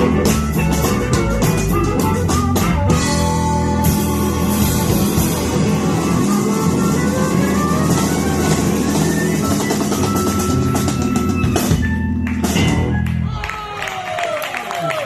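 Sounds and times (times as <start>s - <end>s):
drum fills and cymbal hits: 0.0s - 13.0s
electric blues band playing: 0.0s - 13.6s.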